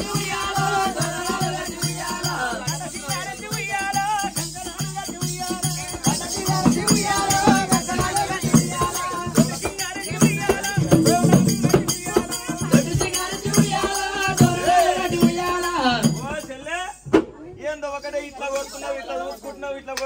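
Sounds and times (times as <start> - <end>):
jingling ankle bells: 0.0 - 17.0
drums beating quick rhythm: 0.0 - 17.4
voices singing: 0.0 - 20.0.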